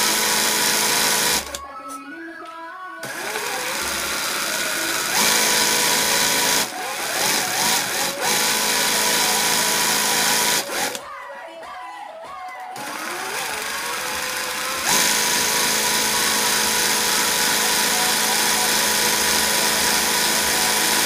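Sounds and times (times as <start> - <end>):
industrial sewing machine stitching: 0.0 - 1.6, 3.0 - 11.0, 12.8 - 21.0.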